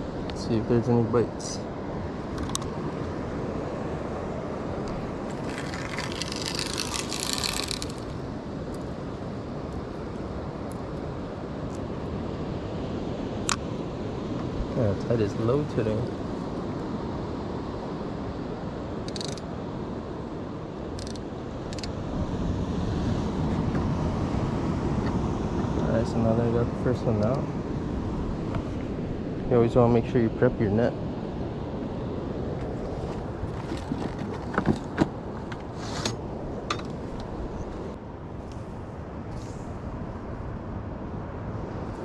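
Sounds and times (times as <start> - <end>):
wind: 0.0 - 42.0.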